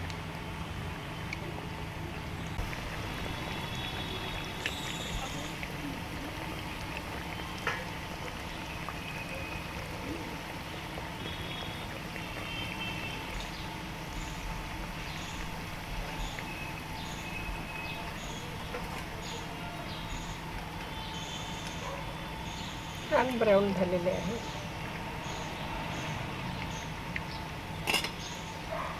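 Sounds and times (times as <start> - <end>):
deep-frying in hot oil: 0.0 - 28.9.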